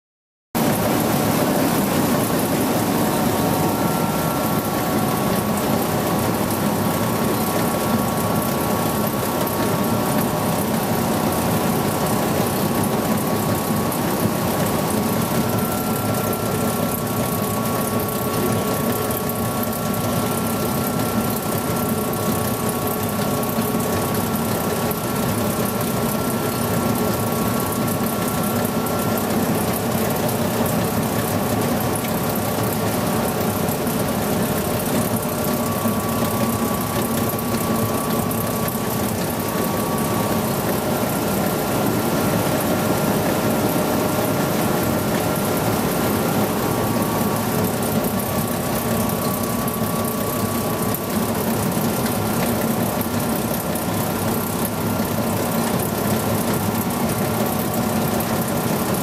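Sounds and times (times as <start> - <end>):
faint high whine: 0.6 - 53.5
crusher machine running: 0.6 - 59.0.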